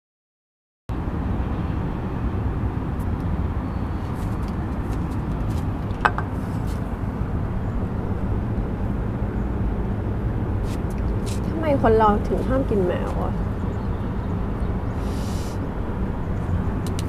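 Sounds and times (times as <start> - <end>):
distant traffic rumble: 0.9 - 17.0.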